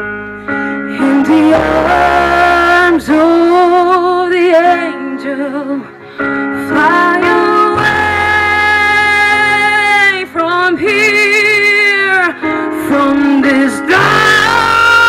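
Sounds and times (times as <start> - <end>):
woman singing into microphone: 0.8 - 15.0.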